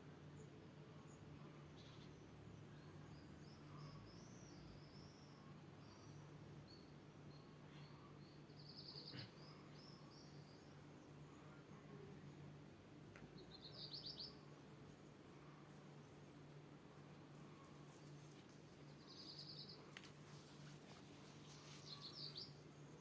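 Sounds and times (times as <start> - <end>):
low hum and hiss: 0.0 - 23.0
birds chirping and trilling: 1.1 - 12.6, 13.3 - 15.6, 17.4 - 23.0.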